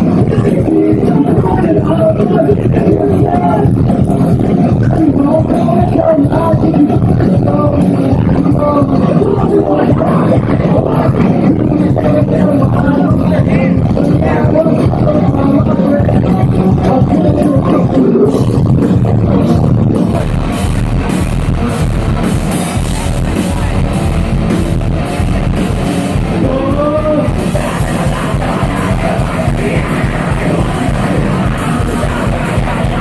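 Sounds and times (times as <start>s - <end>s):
person singing: 0.0s - 20.6s, 25.5s - 33.0s
live rock band playing: 0.0s - 33.0s.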